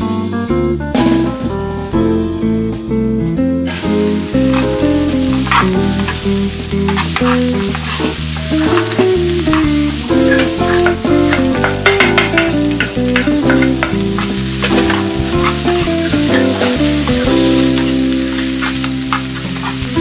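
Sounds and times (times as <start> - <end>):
background music: 0.0 - 20.0
vegetables sizzling in oil: 3.6 - 20.0
spatula scraping pan: 3.7 - 20.0.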